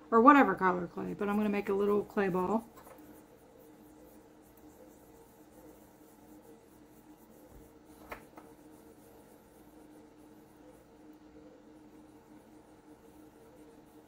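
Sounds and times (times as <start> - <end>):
steady low hum: 0.0 - 14.0
palms rubbing clay: 0.3 - 14.0.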